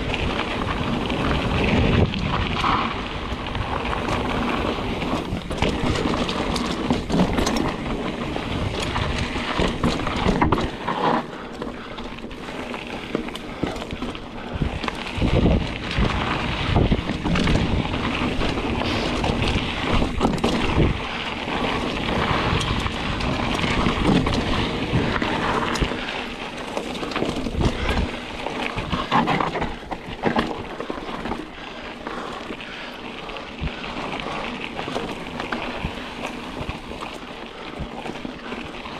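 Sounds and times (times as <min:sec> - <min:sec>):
wind buffeting microphone: 0:00.0 - 0:10.8, 0:12.8 - 0:38.9
bike rattling and clicking: 0:00.0 - 0:38.9
tyres rolling over dirt and leaves: 0:00.0 - 0:38.9.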